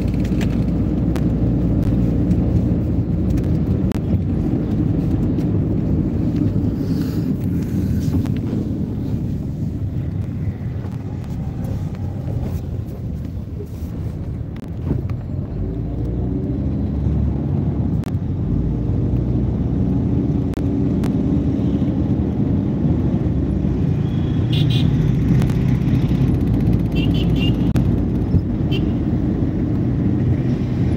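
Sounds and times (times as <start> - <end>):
vehicle engine and road rumble: 0.0 - 30.9.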